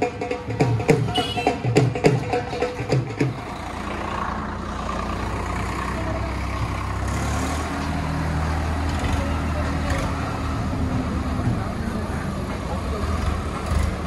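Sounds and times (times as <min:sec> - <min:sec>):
tractor diesel engine idling: 0:00.2 - 0:14.0.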